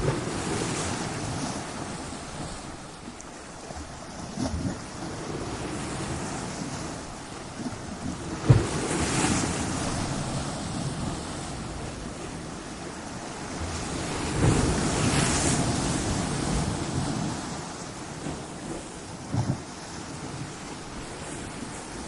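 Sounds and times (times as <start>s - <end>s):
ocean waves breaking on rocks: 0.0s - 22.0s.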